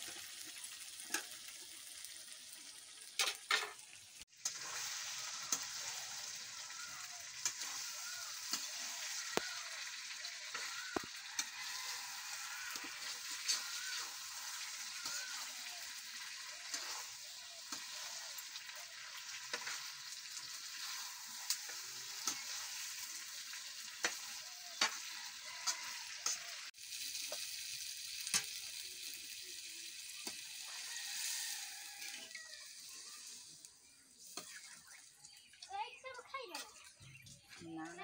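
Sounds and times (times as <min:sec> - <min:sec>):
curry sizzling in a pan: 0:00.0 - 0:38.0.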